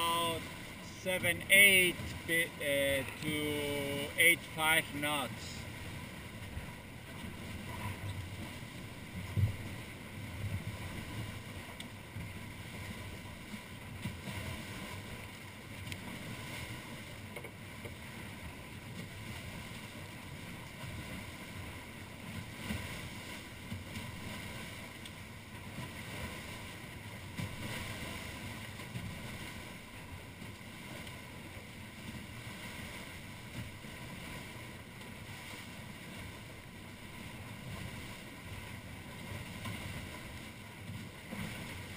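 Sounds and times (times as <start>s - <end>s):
wind and water rushing: 0.0s - 41.9s.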